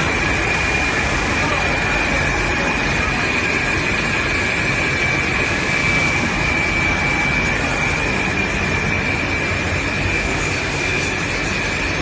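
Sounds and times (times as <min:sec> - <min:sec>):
high-pitched machine whine: 0:00.0 - 0:12.0
printing machine hum and rush: 0:00.0 - 0:12.0.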